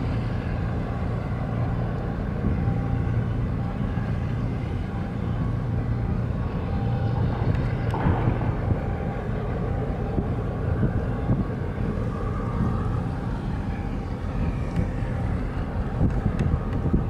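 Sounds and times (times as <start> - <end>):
low rumble of ship engines: 0.0 - 17.0
wind buffeting microphone: 0.0 - 17.0.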